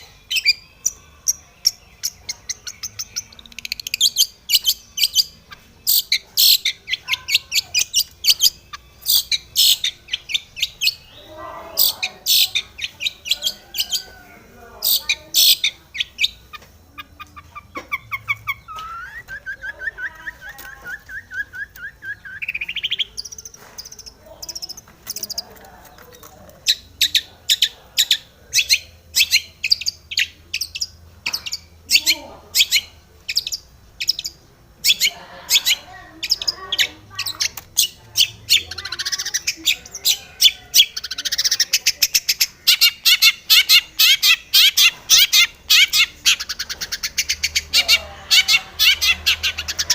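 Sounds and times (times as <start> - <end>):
bird singing: 0.0 - 49.9.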